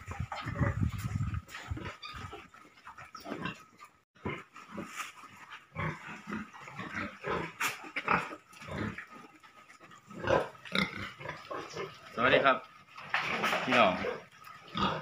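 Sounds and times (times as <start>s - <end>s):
pigs grunting: 0.0s - 15.0s.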